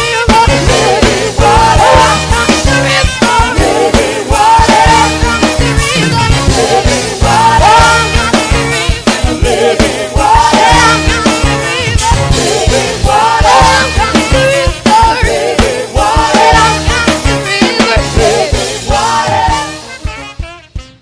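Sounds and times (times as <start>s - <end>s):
group of singers: 0.0s - 20.3s
bass: 0.0s - 21.0s
steady drum beat: 0.0s - 21.0s.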